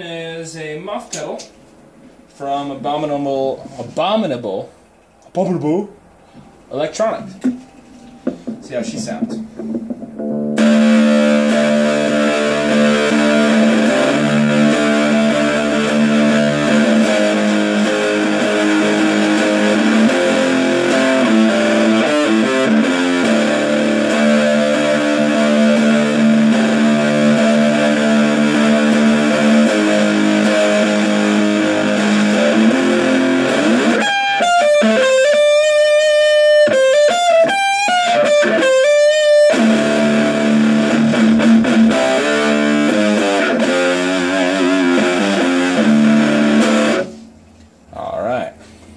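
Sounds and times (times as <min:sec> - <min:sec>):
fuzzed electric guitar: 0:07.3 - 0:47.4.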